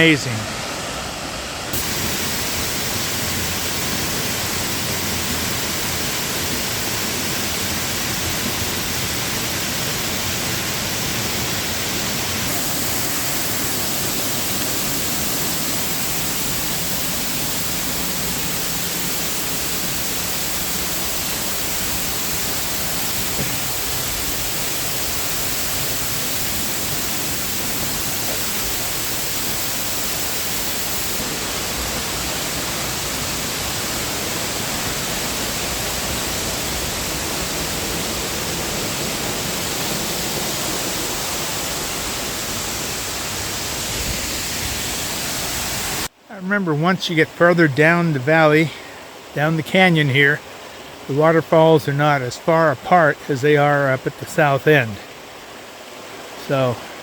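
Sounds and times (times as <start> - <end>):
waterfall roaring: 0.0 - 46.1, 46.7 - 57.0.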